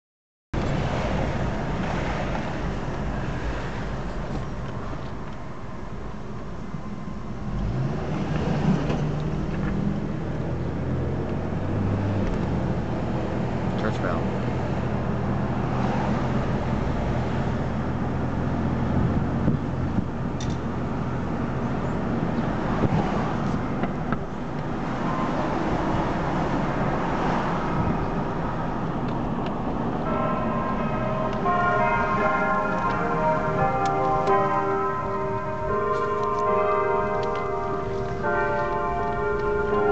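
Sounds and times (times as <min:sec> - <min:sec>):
car engine rumbling: 0:00.6 - 0:39.9
road noise: 0:00.6 - 0:39.9.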